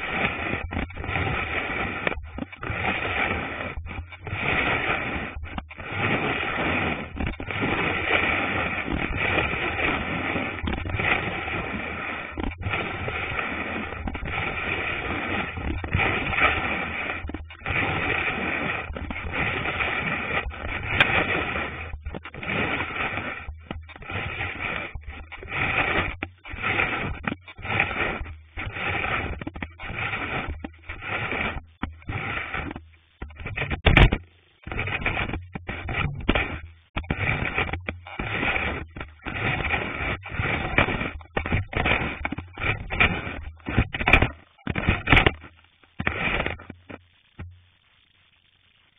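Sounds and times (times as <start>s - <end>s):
ski scraping on snow: 0.0s - 47.0s.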